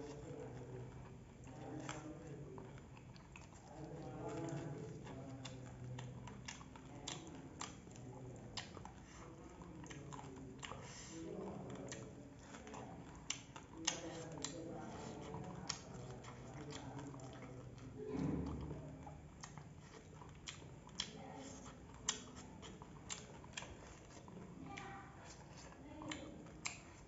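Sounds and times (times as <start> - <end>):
wet chewing and mouth smacks: 0.0 - 27.0.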